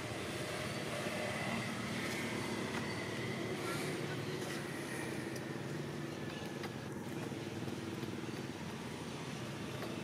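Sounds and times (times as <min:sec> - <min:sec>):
faint outdoor ambience: 0:00.0 - 0:10.0
low mechanical hum: 0:00.0 - 0:10.0.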